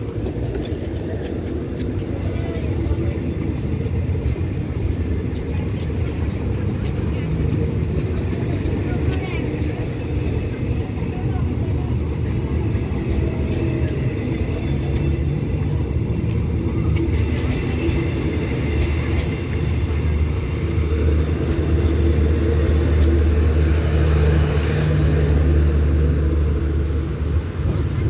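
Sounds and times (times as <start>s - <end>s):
train diesel engine idling: 0.0s - 28.0s.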